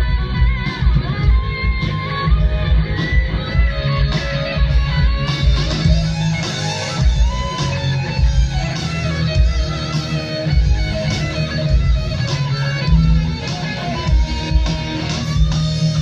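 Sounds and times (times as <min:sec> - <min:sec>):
heavy low drum and bass hits: 0:00.0 - 0:16.0
rock band playing: 0:00.0 - 0:16.0.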